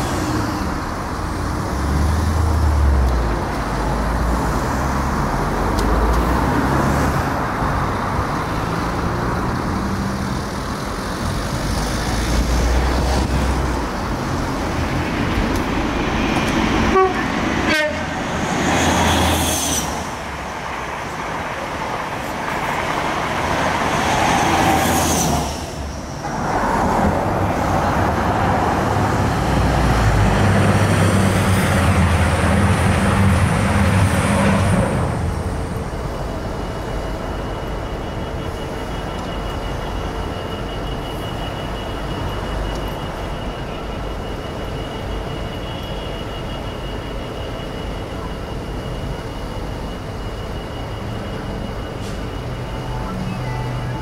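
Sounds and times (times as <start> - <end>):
diesel locomotive hauling wagons: 0.0 - 54.0
passenger trains rumbling: 0.0 - 54.0.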